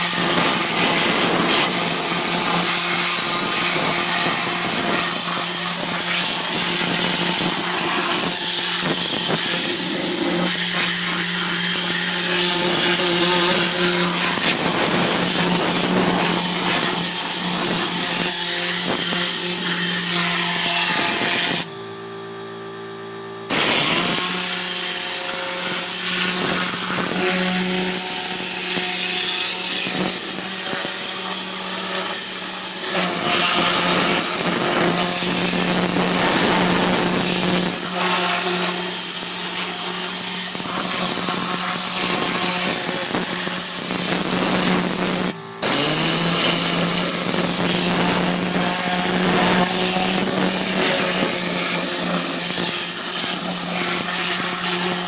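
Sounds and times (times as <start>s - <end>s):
air cleaning gun hissing: 0.0s - 22.1s, 23.5s - 55.0s
steady low hum: 0.0s - 55.0s.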